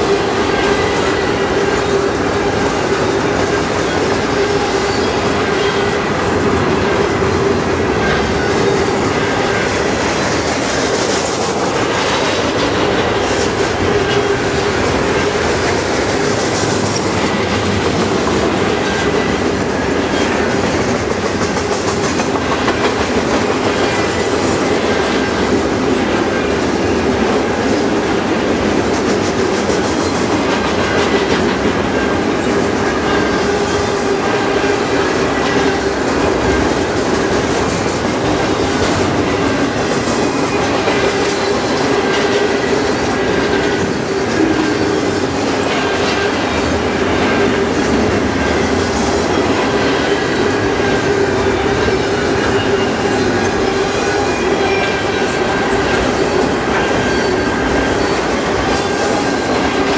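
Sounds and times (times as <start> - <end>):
clickety-clack over rail joints: 0.0 - 59.9
train wheels rattling on rails: 0.0 - 59.9.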